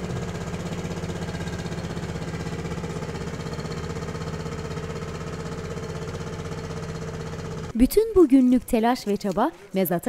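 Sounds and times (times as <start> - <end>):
boat engine chugging: 0.0 - 8.2.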